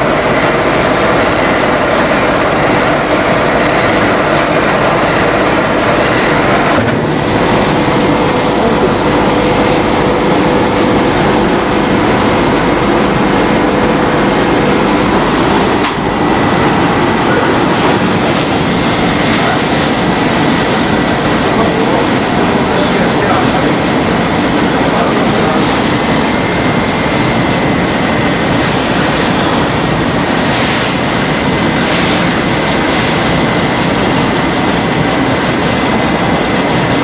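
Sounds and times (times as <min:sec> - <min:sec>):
machinery mechanical din: 0:00.0 - 0:37.0.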